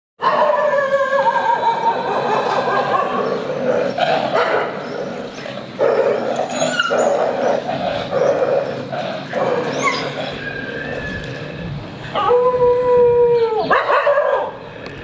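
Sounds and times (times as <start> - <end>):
dogs yipping and barking: 0.2 - 12.5, 13.6 - 14.6.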